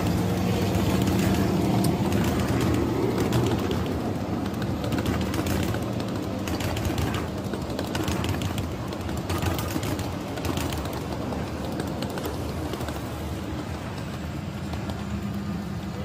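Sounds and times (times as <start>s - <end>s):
model train rumbling past: 0.0s - 16.0s
wheel clicks: 0.0s - 16.0s.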